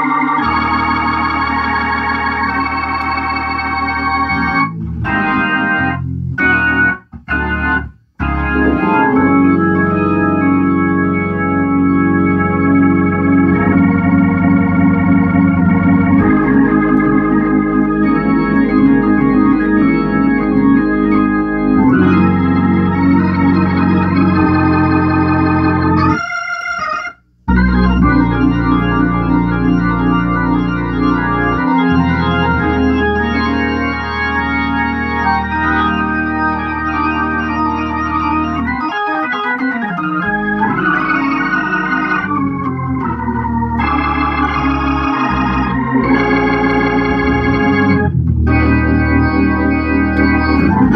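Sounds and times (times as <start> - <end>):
organ playing sustained chords: 0.0 - 50.9.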